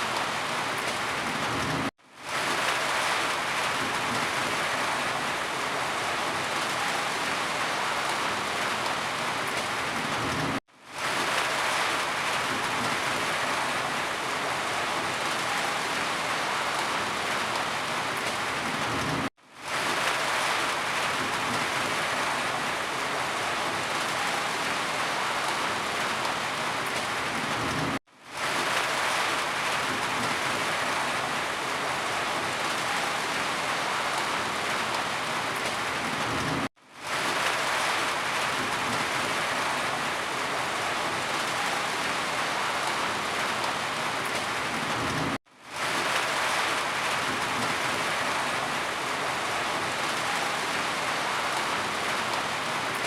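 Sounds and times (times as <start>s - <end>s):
rain hiss: 0.0s - 53.0s.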